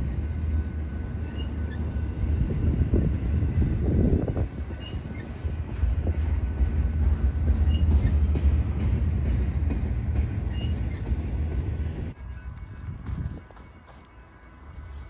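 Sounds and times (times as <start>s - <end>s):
rumble of wheels on rail: 0.0s - 15.0s.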